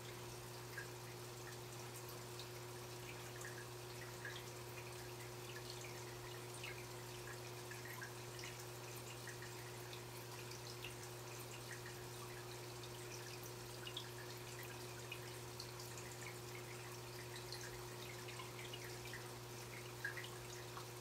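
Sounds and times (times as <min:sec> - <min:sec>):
water trickling and dripping: 0:00.0 - 0:21.0.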